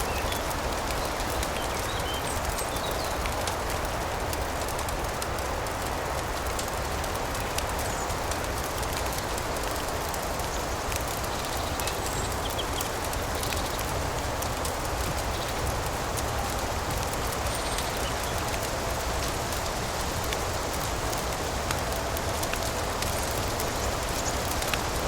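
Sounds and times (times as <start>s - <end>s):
crackle of small ticks: 0.0s - 25.0s
steady rain hiss: 0.0s - 25.0s.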